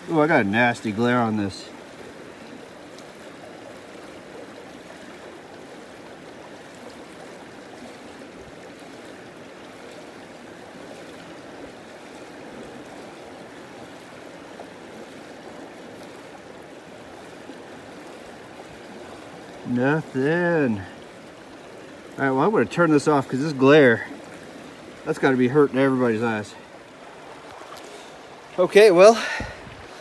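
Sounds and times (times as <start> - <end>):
creek water running: 0.0 - 30.0.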